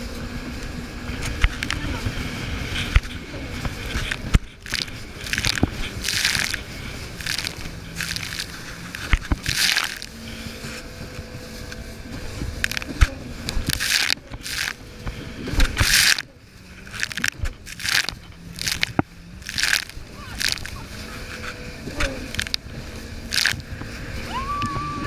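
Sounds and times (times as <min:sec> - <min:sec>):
watercraft engine humming: 0:00.0 - 0:25.0
wind and spray on microphone: 0:00.0 - 0:25.0.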